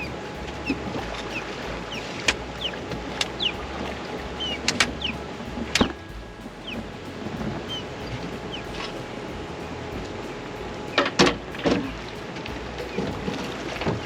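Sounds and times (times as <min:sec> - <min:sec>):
low rumble: 0:00.0 - 0:14.0
water noise: 0:00.0 - 0:14.0
wind: 0:00.0 - 0:14.0.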